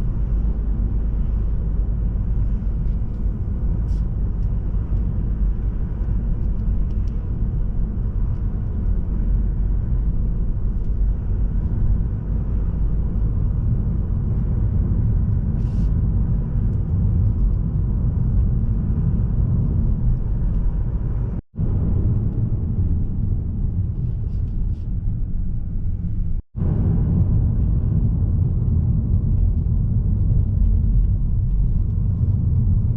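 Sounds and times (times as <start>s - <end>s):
car tyre and road noise: 0.0s - 26.4s.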